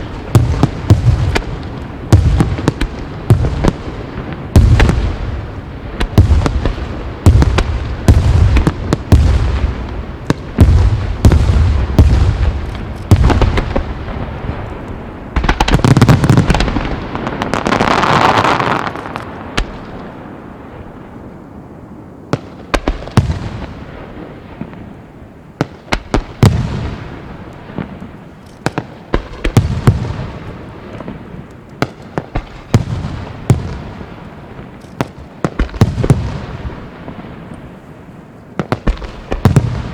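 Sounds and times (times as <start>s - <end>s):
fireworks booming and bursting: 0.0s - 39.9s.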